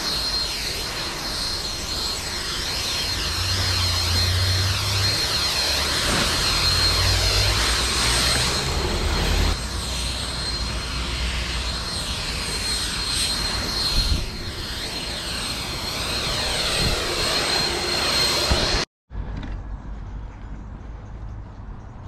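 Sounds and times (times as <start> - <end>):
garden tool whining: 0.0 - 18.8.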